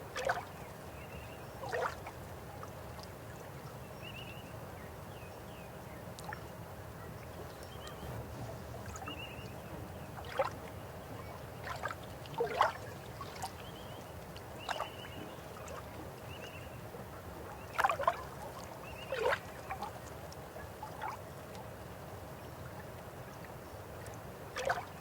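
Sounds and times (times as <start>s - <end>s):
river water flowing: 0.0s - 3.8s, 7.8s - 25.0s.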